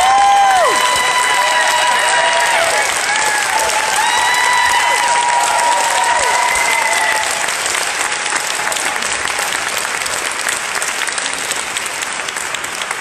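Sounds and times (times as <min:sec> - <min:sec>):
high cheers: 0:00.0 - 0:10.5
audience applauding: 0:00.0 - 0:13.0.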